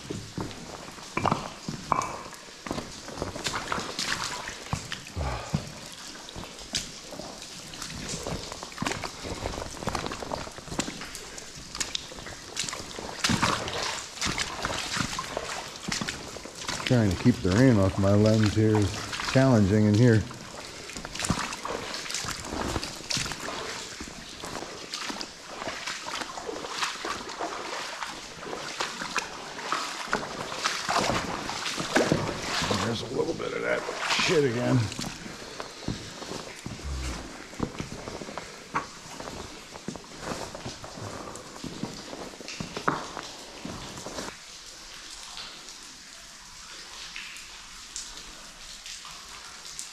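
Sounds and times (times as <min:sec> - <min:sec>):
footsteps sloshing through water: 0:00.0 - 0:44.4
water dripping and splashing: 0:00.0 - 0:49.9.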